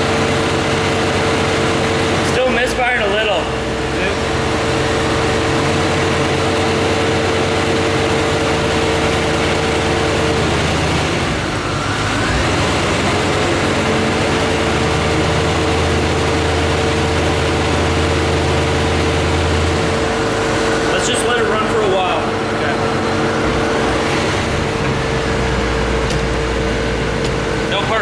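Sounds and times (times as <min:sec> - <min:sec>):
car engine idling with misfires: 0:00.0 - 0:28.0.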